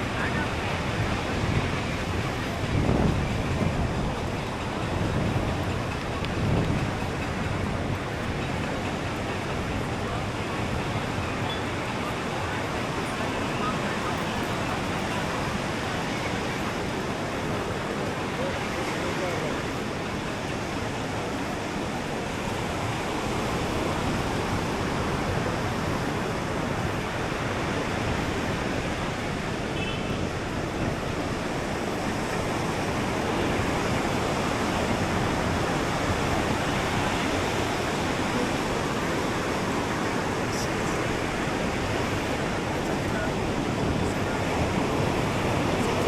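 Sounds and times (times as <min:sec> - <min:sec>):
ocean surf breaking on beach: 0:00.0 - 0:46.0.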